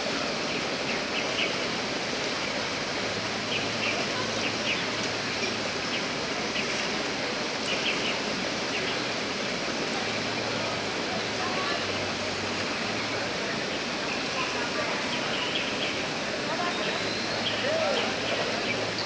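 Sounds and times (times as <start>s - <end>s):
fountain water rushing: 0.0s - 19.0s.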